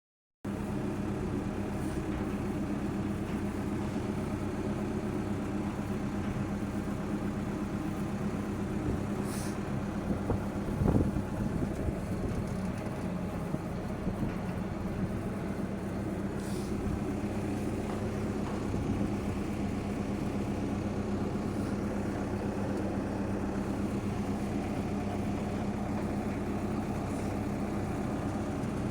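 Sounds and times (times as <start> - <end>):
heavy diesel engine running: 0.5 - 28.9.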